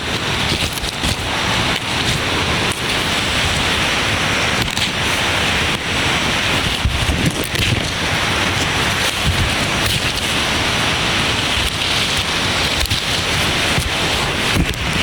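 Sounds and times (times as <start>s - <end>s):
heavy rain falling: 0.0s - 15.0s
wind buffeting microphone: 0.0s - 15.0s.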